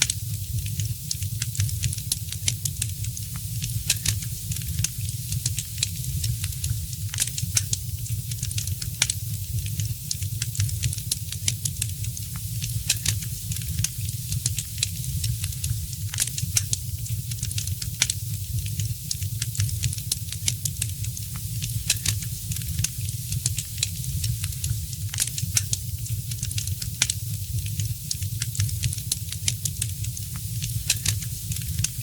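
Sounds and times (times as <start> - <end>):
low rumble and hiss: 0.0 - 32.0
wood fire crackling: 0.0 - 32.0.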